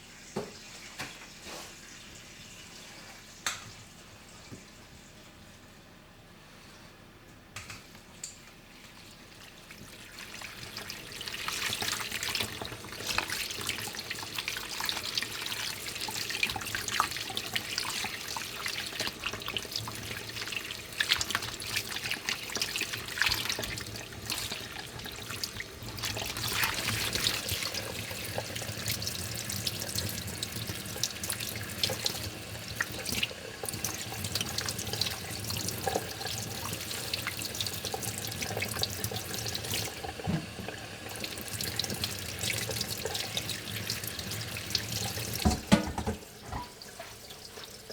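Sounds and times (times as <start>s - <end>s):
tap water running into sink: 9.6s - 47.9s.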